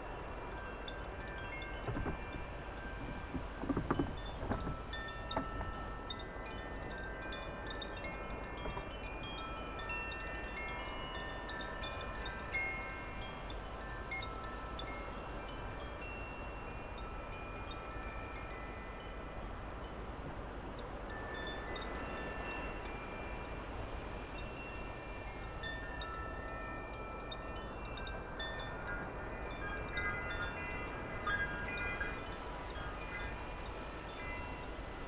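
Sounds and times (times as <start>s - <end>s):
wind chimes ringing: 0.0s - 20.2s, 20.8s - 35.0s
low rumble of wind: 0.0s - 35.0s.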